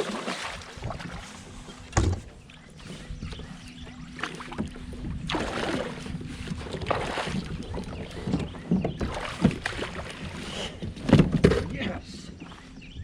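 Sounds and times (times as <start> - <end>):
water swishing: 0.0 - 11.2.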